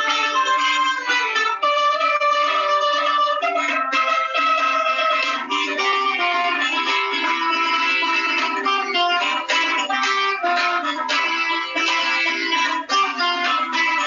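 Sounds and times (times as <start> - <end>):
lute plucked melody: 0.0 - 14.0.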